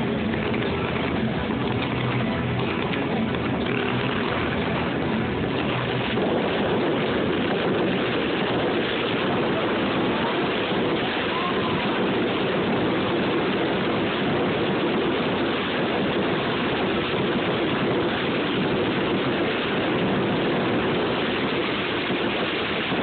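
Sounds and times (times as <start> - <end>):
fireworks fizzing and crackling: 0.0 - 23.0.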